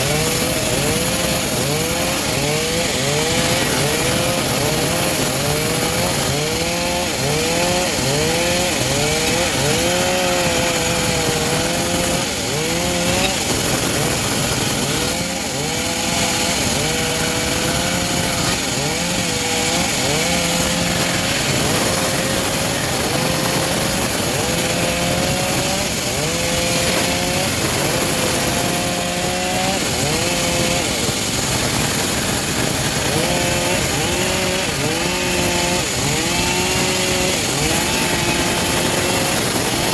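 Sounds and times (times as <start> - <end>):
engine-driven bandsaw sawing wood: 0.0 - 39.9.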